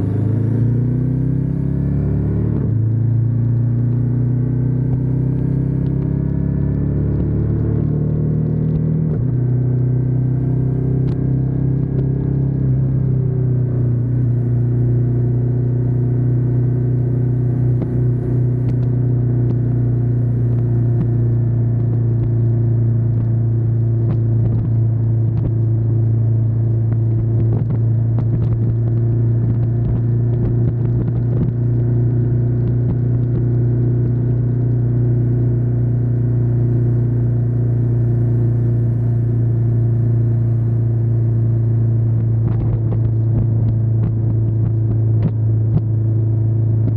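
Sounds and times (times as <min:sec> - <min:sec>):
motorcycle engine rumbling: 0:00.0 - 0:46.9.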